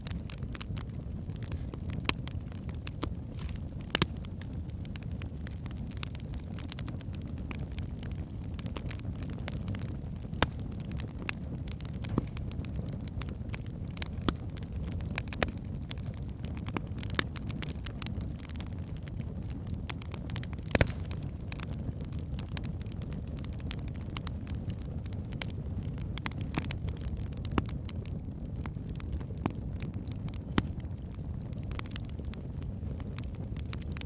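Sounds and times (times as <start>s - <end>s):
fire crackling and popping: 0.0s - 34.0s
log fire rumbling: 0.0s - 34.0s.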